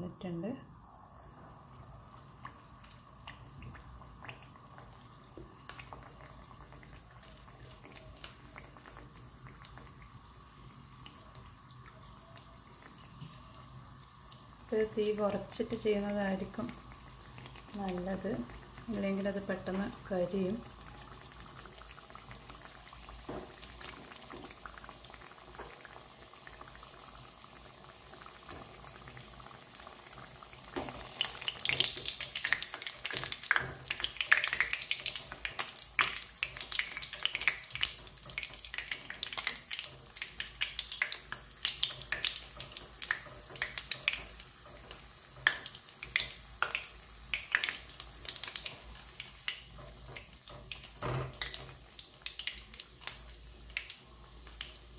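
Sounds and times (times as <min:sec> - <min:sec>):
oil sizzling: 0:00.0 - 0:54.9
oil crackling and popping: 0:01.7 - 0:19.0, 0:19.6 - 0:54.9.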